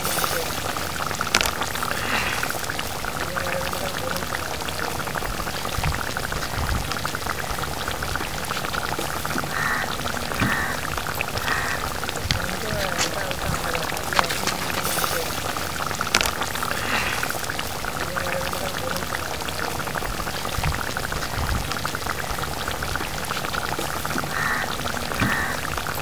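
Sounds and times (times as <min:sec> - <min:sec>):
curry bubbling in a pot: 0:00.0 - 0:26.0.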